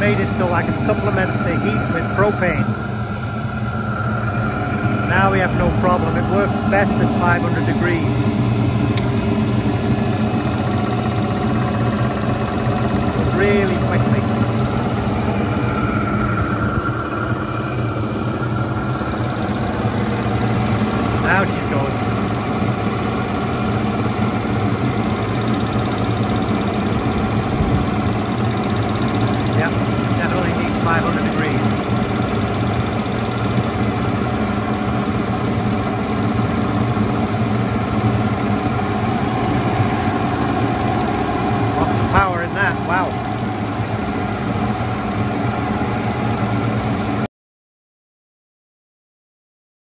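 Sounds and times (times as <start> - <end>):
electric cooling fan: 0.0 - 47.3
stirling engine running: 0.0 - 47.3.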